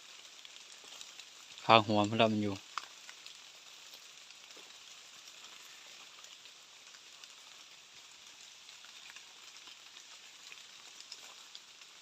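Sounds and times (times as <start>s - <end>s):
light rain hiss: 0.0s - 12.0s
small raindrop ticks: 0.0s - 12.0s.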